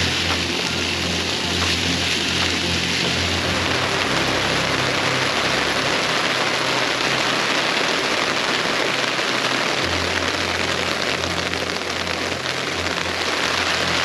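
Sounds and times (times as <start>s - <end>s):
heavy rain on a canopy: 0.0s - 14.0s.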